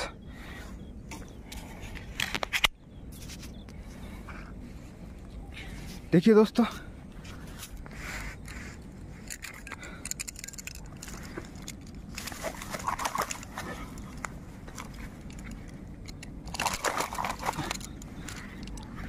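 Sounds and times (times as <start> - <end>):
crackling handling noises: 0.5 - 6.1, 6.7 - 19.0.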